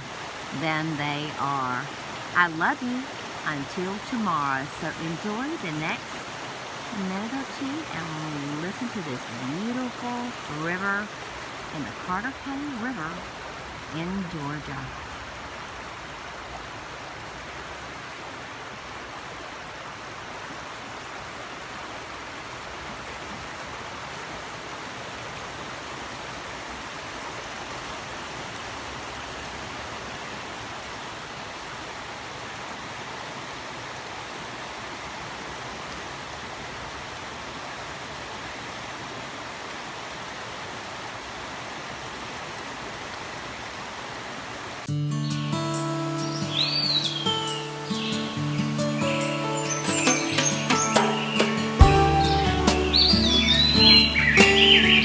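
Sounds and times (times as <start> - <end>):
river running over rocks: 0.0 - 45.0.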